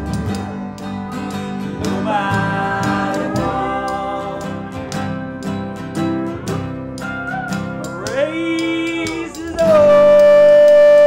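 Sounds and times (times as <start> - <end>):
acoustic guitar: 0.0 - 11.0
sliding lap steel guitar: 0.0 - 11.0
steady clicking beat: 0.0 - 11.0
upright bass: 0.0 - 11.0.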